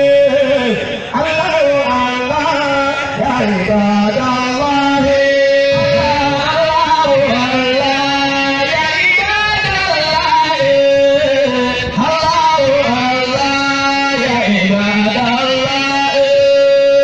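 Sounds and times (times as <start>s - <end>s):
man singing ornamented melody: 0.0s - 17.0s.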